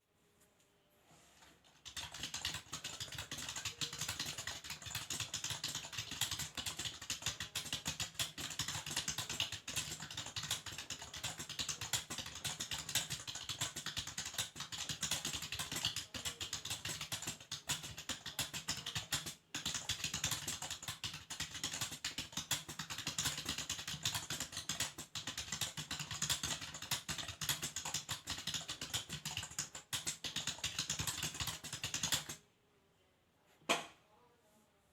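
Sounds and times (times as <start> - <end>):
fast keyboard typing: 1.6 - 32.4.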